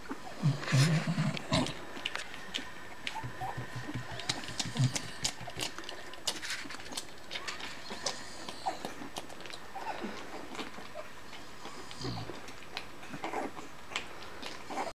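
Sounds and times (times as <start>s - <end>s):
puppies grunting and squeaking: 0.0s - 14.9s.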